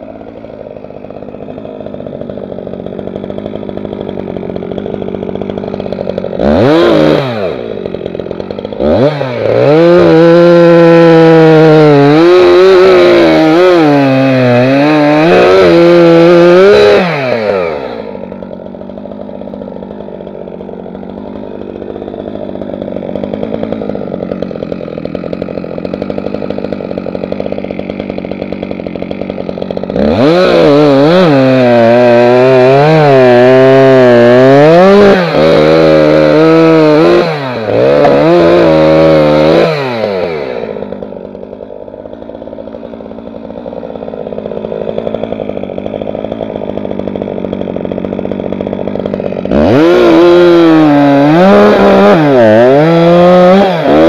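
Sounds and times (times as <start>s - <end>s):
chainsaw cutting log: 0.0s - 54.0s
chainsaw idling: 0.0s - 54.0s.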